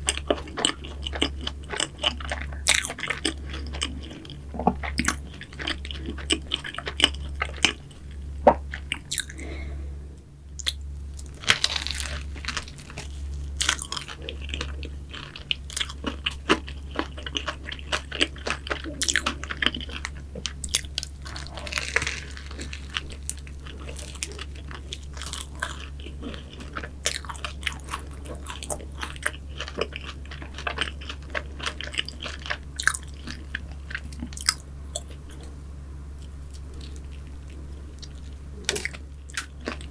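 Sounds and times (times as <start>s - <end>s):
biting and chewing pastries: 0.0s - 9.6s, 10.5s - 35.6s, 36.2s - 39.9s
steady low hum: 0.0s - 39.9s.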